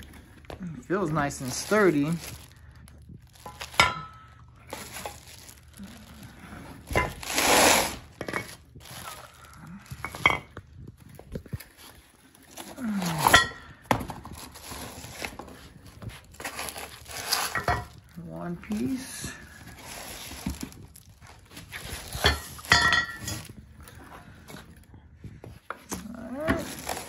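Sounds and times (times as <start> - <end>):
plastic wrap and cardboard rustling: 0.0 - 27.0.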